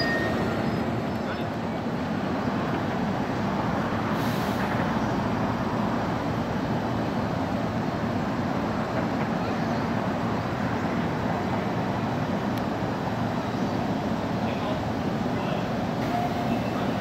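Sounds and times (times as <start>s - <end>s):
idling train equipment hum: 0.0s - 17.0s.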